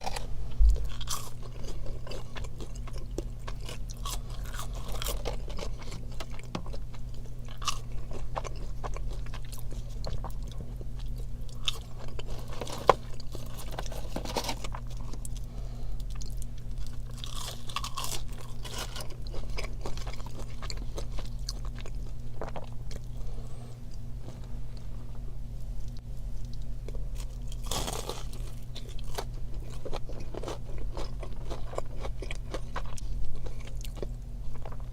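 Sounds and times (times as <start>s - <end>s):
crunchy bites and chewing: 0.0s - 24.6s, 25.6s - 34.9s
steady low hum: 0.0s - 34.9s.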